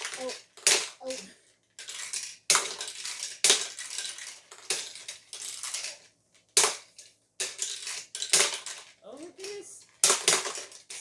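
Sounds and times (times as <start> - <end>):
plastic toy balls clattering: 0.0 - 11.0.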